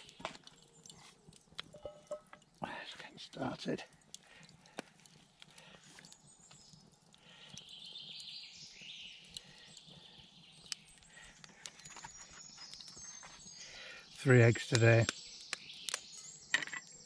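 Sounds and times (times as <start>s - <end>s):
charcoal crackling with pops: 0.0s - 17.0s.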